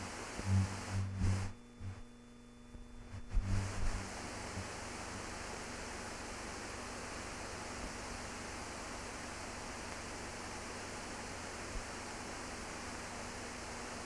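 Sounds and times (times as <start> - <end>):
faint hum: 0.0 - 14.0
film recording hiss: 0.0 - 14.0.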